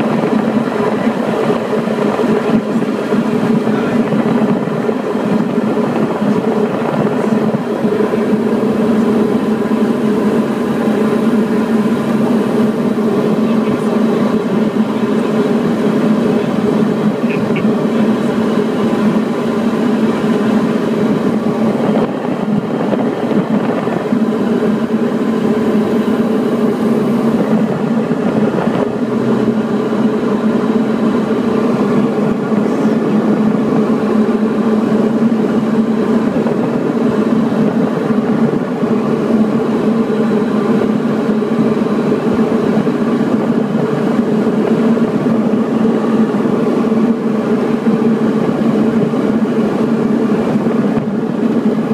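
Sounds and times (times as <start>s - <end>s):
aircraft engine and propeller drone: 0.0s - 51.9s.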